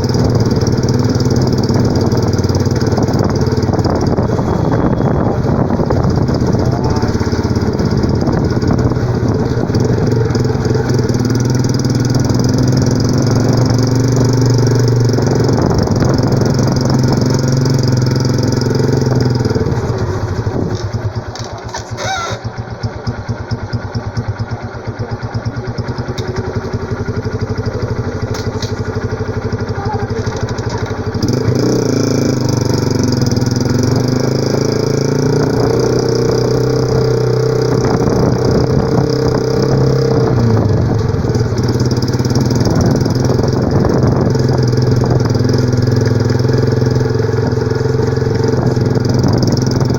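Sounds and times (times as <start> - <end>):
motorcycle engine revving and idling: 0.0 - 49.9.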